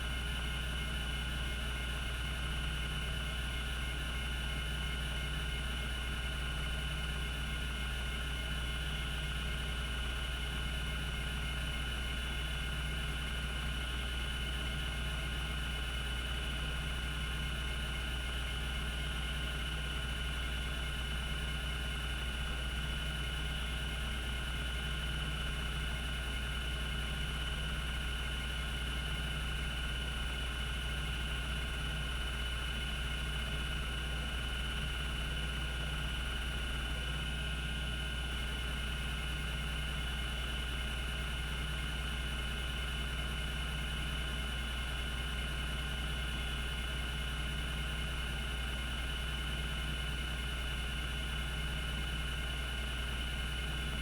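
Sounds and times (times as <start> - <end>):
hard disk spinning hum: 0.0 - 54.0.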